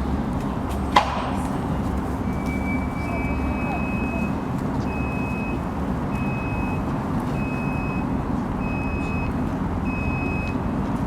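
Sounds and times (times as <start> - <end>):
tram reversing beeper: 1.6 - 10.7.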